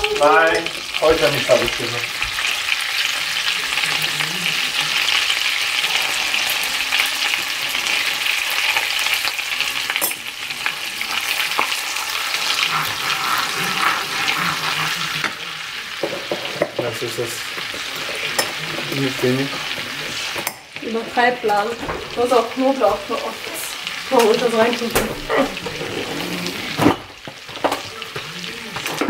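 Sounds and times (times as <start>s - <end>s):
butter sizzling in a pan: 0.0s - 29.0s.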